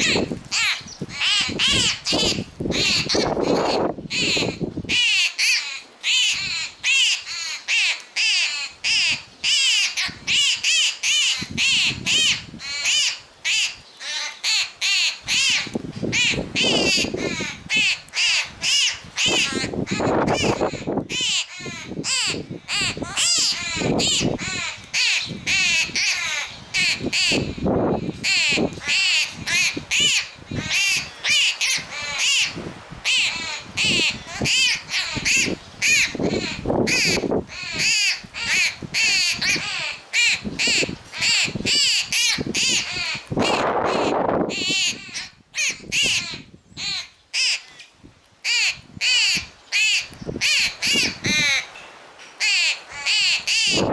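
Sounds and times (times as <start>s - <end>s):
young bird begging calls: 0.0s - 53.9s.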